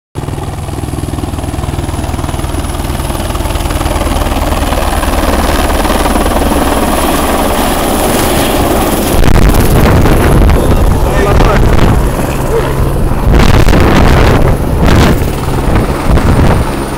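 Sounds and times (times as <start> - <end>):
helicopter rotor beating: 0.2 - 16.9.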